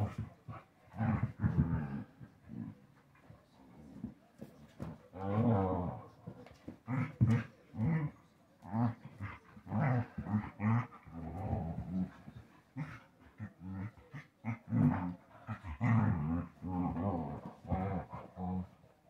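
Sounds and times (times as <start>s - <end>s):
dogs growling: 0.0s - 18.9s.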